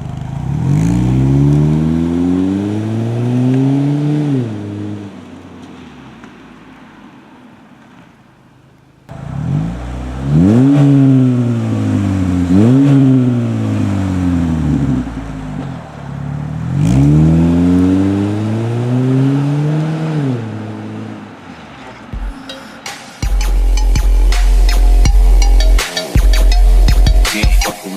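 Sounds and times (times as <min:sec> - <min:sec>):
car engine revving: 0:00.0 - 0:07.1, 0:09.1 - 0:27.4.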